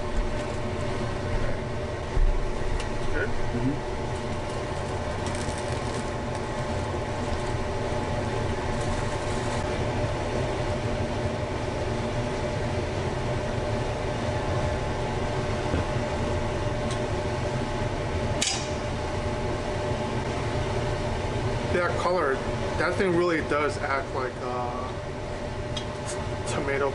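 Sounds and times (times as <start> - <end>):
fan humming: 0.0 - 26.9.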